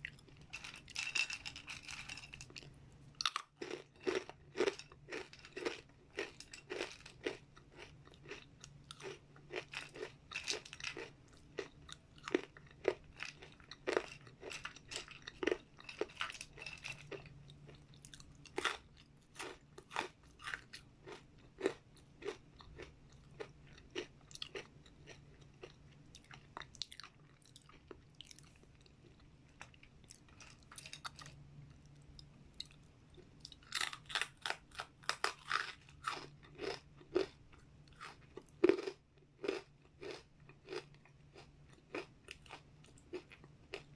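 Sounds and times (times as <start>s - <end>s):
crunchy chips being chewed: 0.0s - 43.9s.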